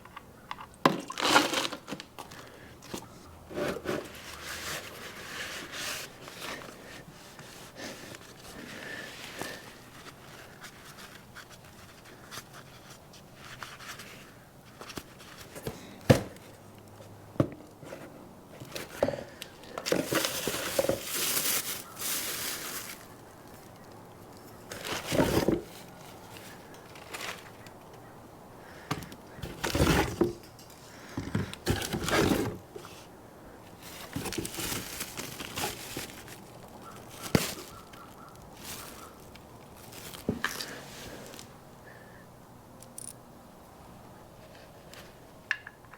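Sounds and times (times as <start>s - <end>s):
scraping and crinkling: 0.0s - 42.0s.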